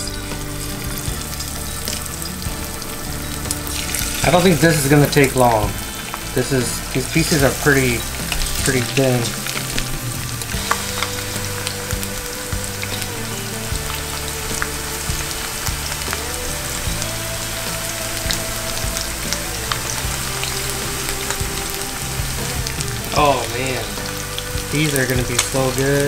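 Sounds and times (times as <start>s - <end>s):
fish deep frying in oil: 0.0s - 26.0s.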